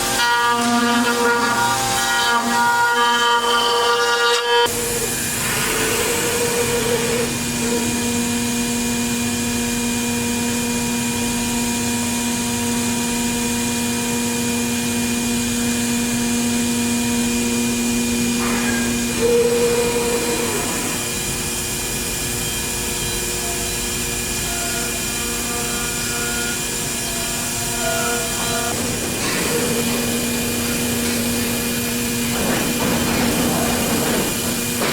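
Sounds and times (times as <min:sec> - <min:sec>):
cnc router whining: 0:00.0 - 0:34.9.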